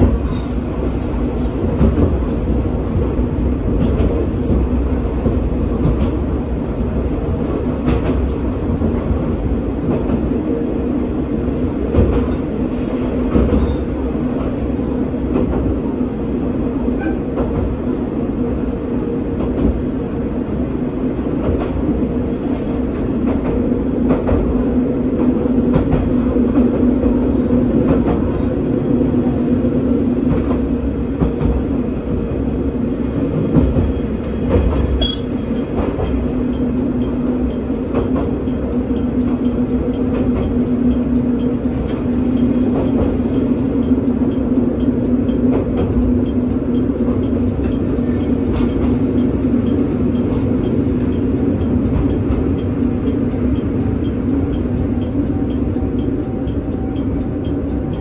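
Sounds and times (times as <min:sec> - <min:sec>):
railcar engine drone: 0:00.0 - 0:58.0.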